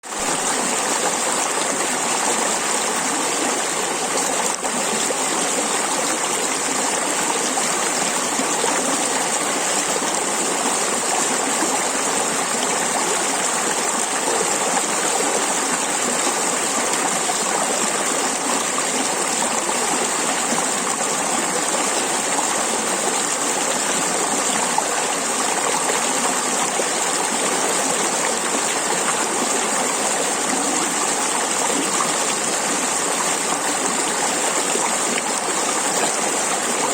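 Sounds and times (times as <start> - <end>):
stream babbling over stones: 0.0 - 36.9.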